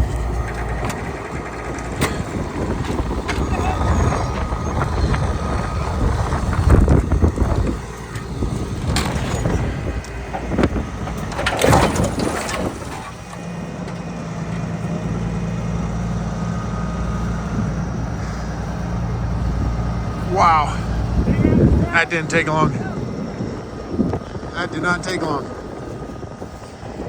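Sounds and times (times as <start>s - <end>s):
crunching scraping metal impacts: 0.0s - 22.8s
diesel engines rumbling: 0.0s - 27.0s.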